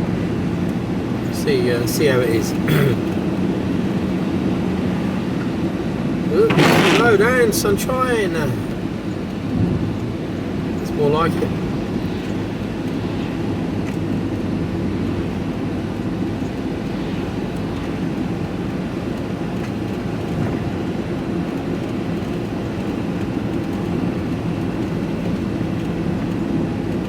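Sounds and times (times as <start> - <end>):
vehicle engine and tyre rumble: 0.0 - 27.0.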